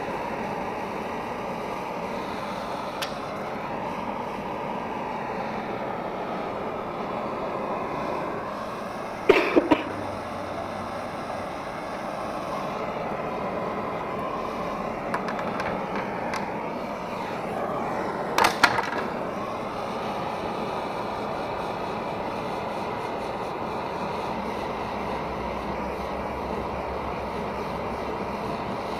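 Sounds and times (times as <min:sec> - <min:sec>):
blowtorch flame hissing: 0:00.0 - 0:28.9.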